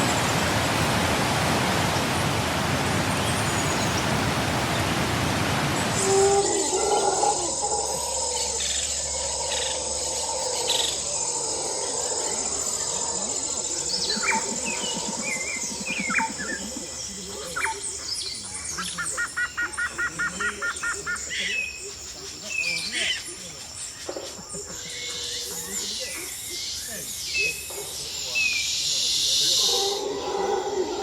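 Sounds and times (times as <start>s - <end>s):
insects droning: 0.0s - 31.0s
birds chirping: 2.9s - 31.0s.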